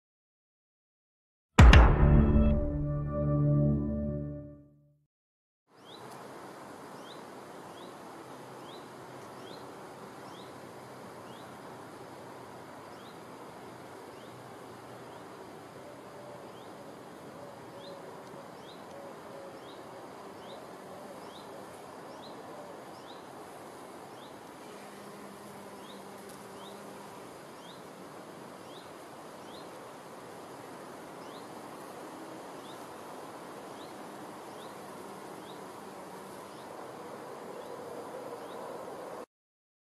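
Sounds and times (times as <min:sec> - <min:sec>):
insects buzzing faintly: 0:05.8 - 0:39.3.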